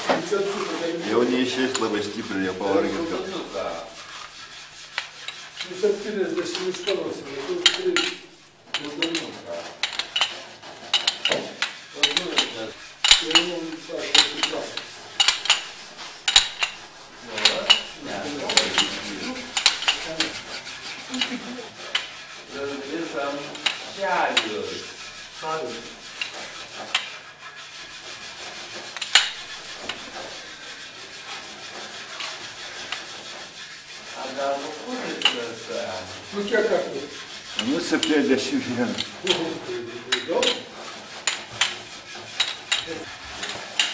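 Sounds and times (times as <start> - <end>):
tool scraping in a bucket: 0.0 - 43.9.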